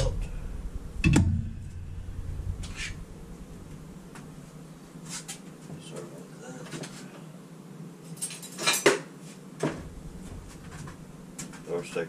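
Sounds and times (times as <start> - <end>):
low steady hum: 0.0 - 8.4, 9.4 - 12.0.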